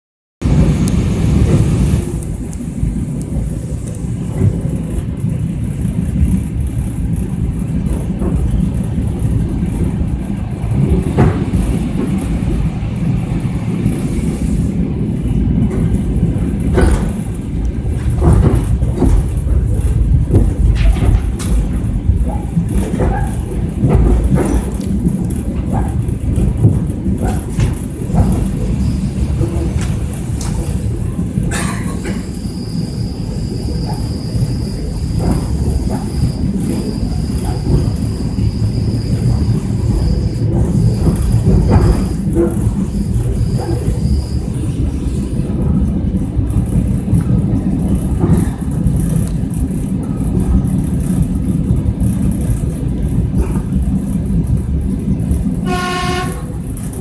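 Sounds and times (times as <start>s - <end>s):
train wheels rumbling on rails: 0.4s - 57.0s.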